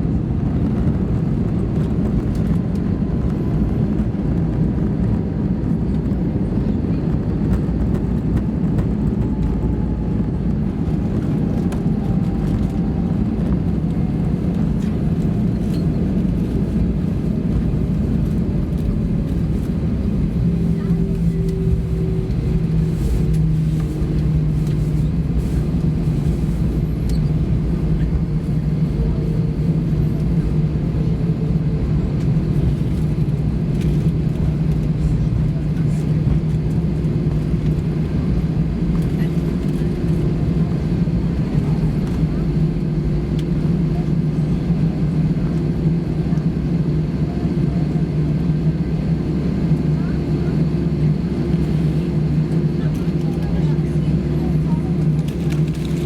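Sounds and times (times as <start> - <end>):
airplane cabin engine hum: 0.0 - 56.0.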